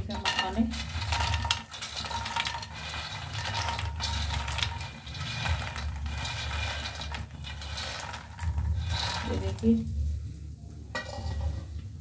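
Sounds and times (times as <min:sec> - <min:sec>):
puffed seeds tumbling into pan: 0:00.0 - 0:12.0.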